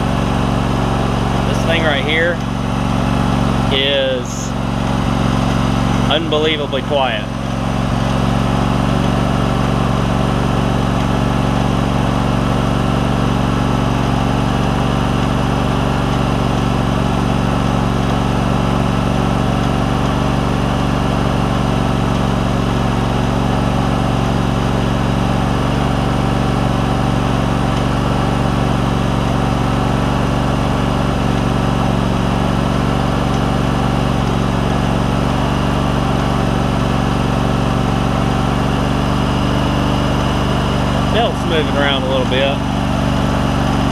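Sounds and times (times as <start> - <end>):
lawn tractor engine running: 0.0 - 43.9.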